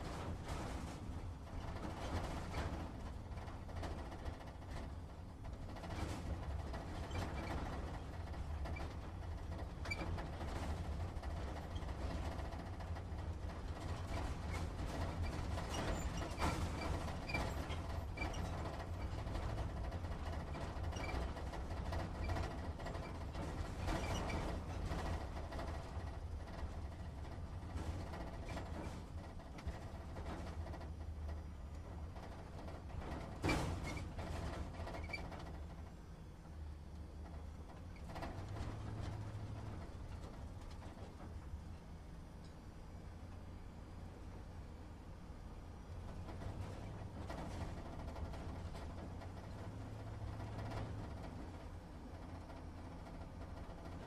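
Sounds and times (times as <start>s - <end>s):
cab creaks and rattles: 0.0s - 42.4s, 45.8s - 54.0s
truck engine rumbling: 0.0s - 54.0s.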